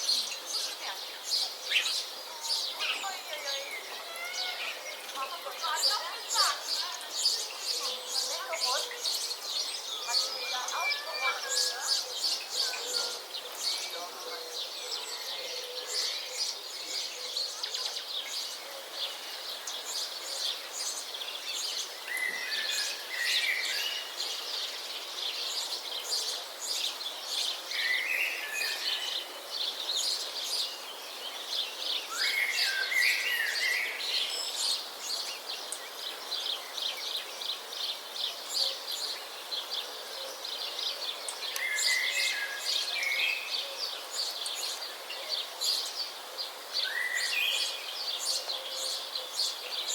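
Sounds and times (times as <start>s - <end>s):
background hiss: 0.0s - 49.9s
wild birds chirping: 0.0s - 49.9s.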